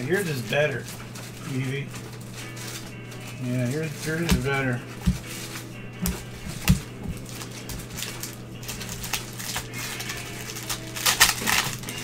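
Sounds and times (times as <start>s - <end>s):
steady low hum: 0.0s - 12.0s
cards shuffled and tapped: 0.9s - 12.0s.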